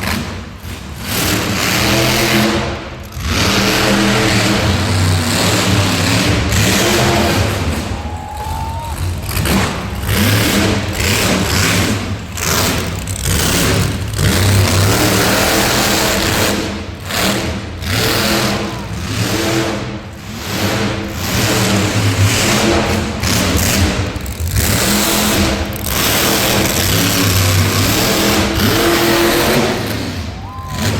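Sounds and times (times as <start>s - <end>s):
truck engine revving hard: 0.0s - 30.9s.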